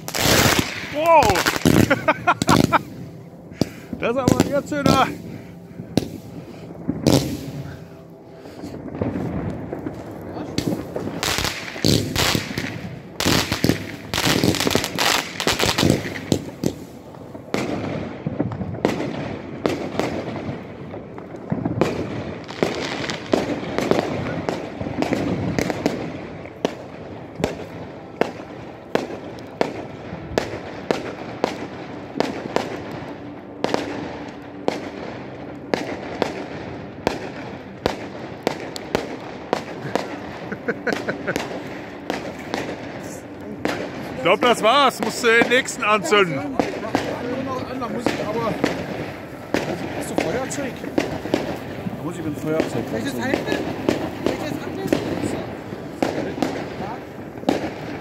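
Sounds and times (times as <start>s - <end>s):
firework bangs: 0.0s - 58.0s
firework crackling: 0.0s - 58.0s.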